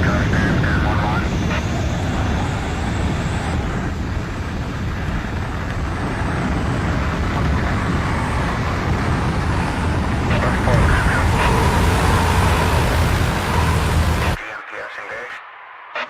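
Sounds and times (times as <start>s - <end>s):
airplane engine and wind noise: 0.0s - 15.1s.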